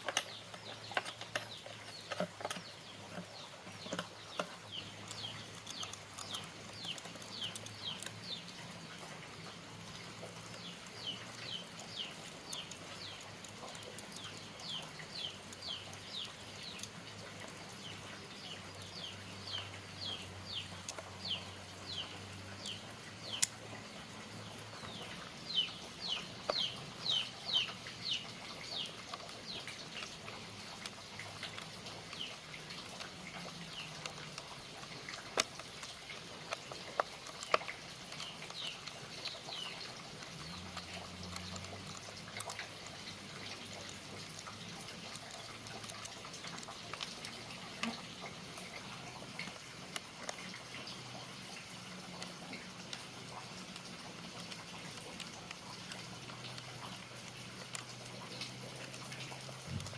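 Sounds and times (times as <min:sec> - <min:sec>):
bird chirping: 0:00.0 - 0:49.6.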